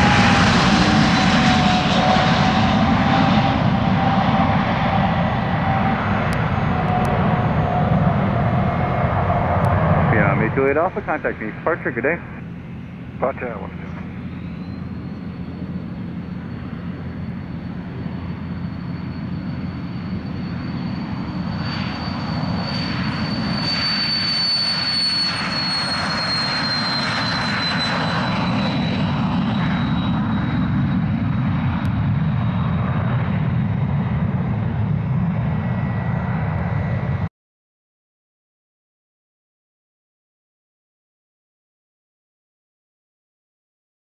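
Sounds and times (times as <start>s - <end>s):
high turbine whine: 0.0s - 37.3s
jet engine roar: 0.0s - 37.3s.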